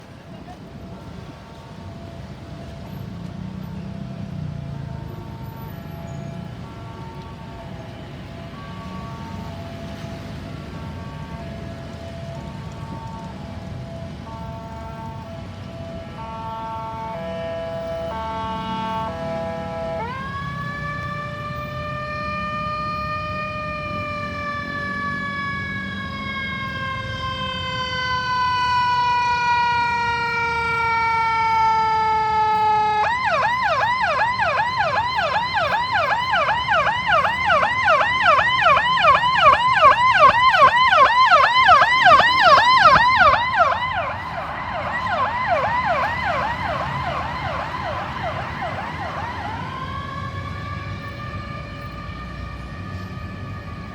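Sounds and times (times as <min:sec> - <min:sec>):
ambulance siren wail and yelp: 0:00.0 - 0:53.9.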